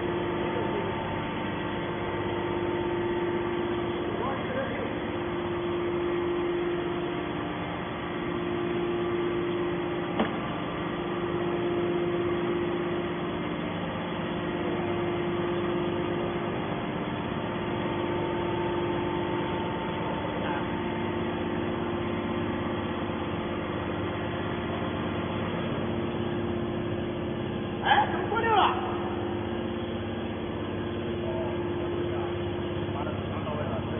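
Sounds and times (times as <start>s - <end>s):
hydraulic baler humming: 0.0s - 33.9s.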